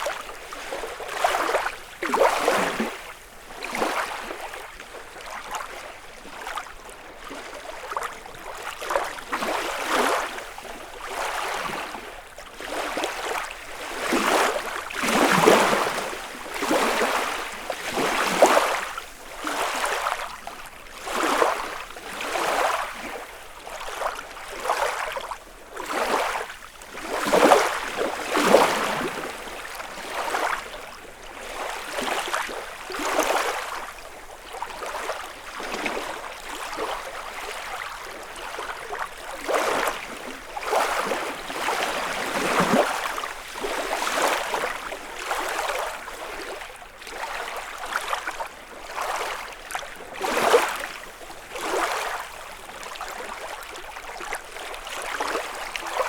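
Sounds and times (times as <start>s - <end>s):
waves lapping against shore: 0.0s - 56.0s.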